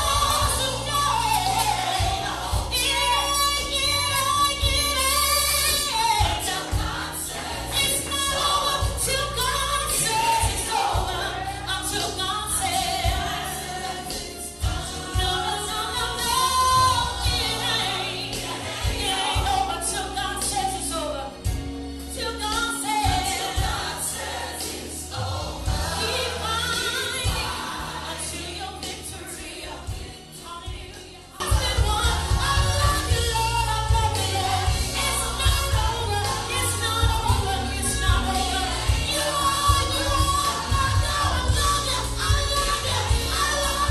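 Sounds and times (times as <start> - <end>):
choir singing gospel: 0.0 - 43.9
steady bass line: 0.0 - 43.9.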